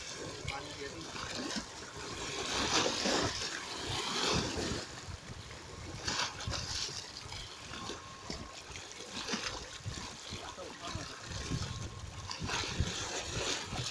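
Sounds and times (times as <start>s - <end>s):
waves splashing against concrete steps: 0.0s - 13.9s.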